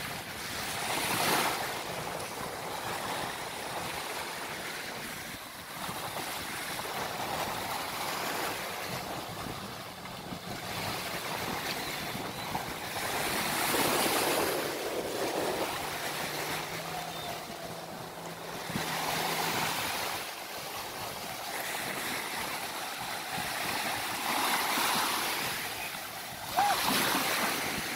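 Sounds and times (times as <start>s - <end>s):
jet ski engine humming: 0.0s - 27.9s
surf breaking and washing: 0.0s - 27.9s
wind on the microphone: 0.0s - 27.9s.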